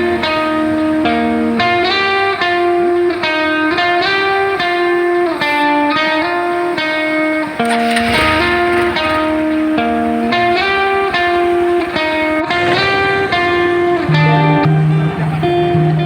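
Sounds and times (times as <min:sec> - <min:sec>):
plucked guitar melody: 0:00.0 - 0:16.0.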